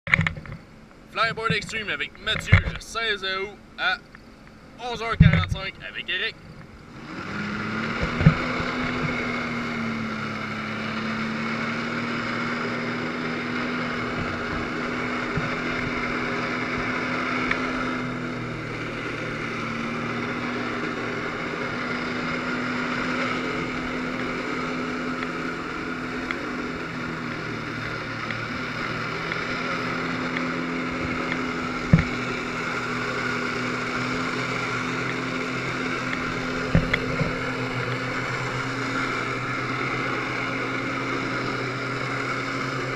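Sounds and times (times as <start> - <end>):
jet ski engine running: 0.0 - 42.9.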